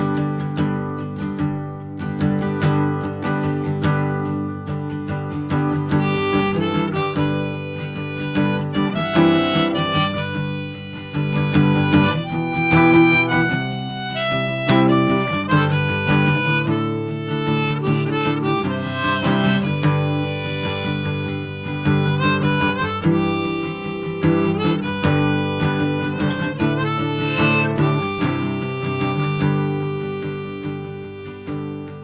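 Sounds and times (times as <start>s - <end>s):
harmonica melody: 0.0s - 32.0s
strummed acoustic guitar: 0.0s - 32.0s.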